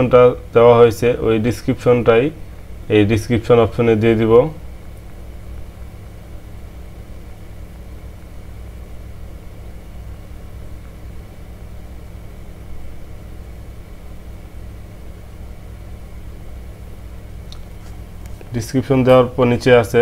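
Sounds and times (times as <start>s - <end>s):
low hum of room noise: 0.0s - 20.0s.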